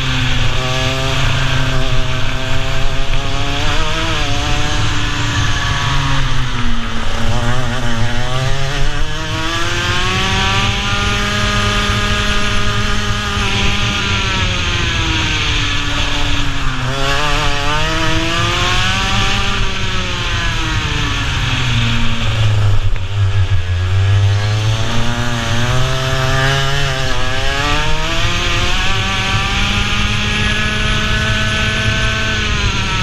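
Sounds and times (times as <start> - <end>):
kart engine revving: 0.0 - 33.0.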